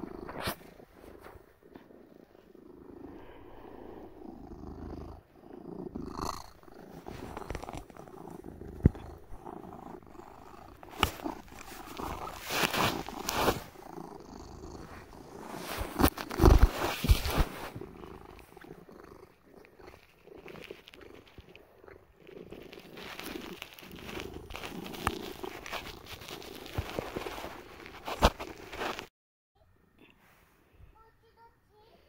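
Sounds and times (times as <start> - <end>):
cat purring: 0.0 - 29.1
rustling: 0.0 - 29.1.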